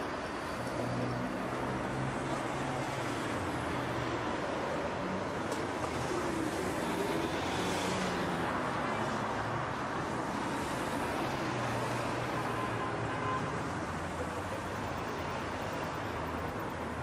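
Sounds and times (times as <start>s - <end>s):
tyre road noise: 0.0s - 17.0s.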